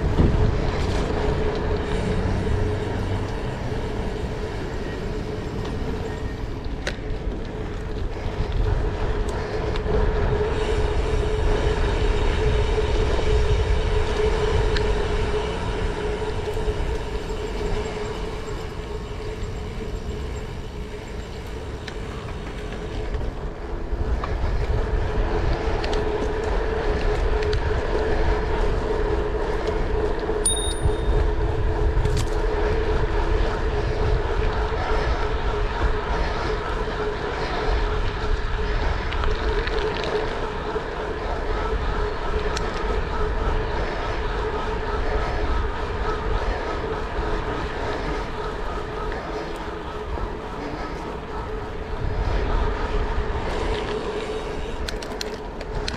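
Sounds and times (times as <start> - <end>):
vehicle rumble: 0.0 - 55.9
wavering hum: 0.0 - 55.9.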